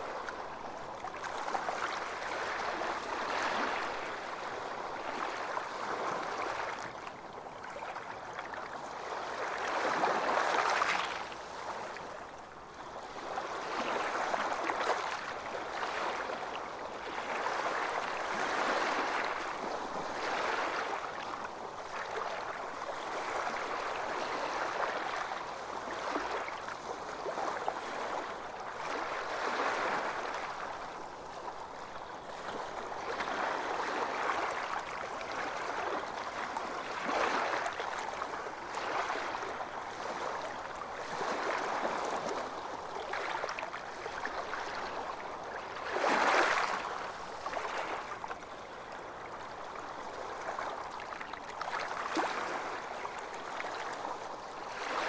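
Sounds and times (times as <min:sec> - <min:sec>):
small waves washing onto beach: 0:00.0 - 0:55.0.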